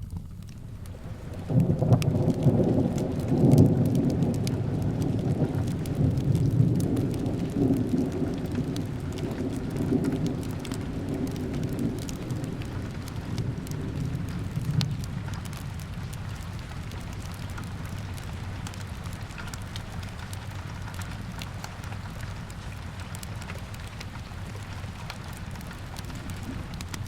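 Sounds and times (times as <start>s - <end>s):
steady rain: 0.0s - 27.0s
thunder rumbling: 0.7s - 27.0s.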